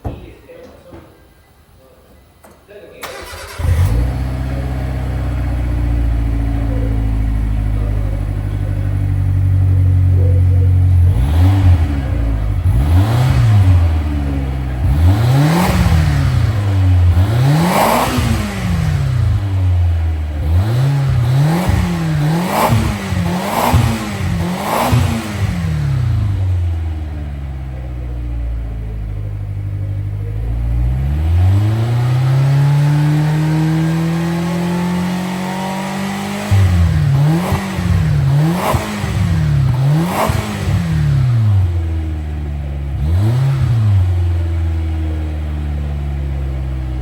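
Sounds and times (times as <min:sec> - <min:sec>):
car engine idling and revving: 0:03.0 - 0:47.0.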